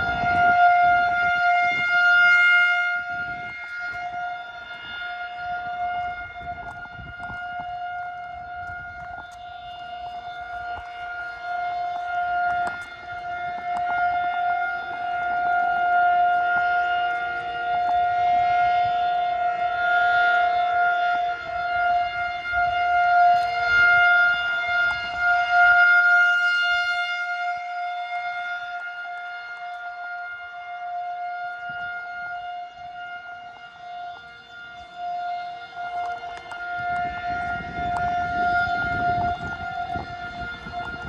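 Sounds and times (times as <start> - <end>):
warning siren steady tone: 0.0 - 41.0.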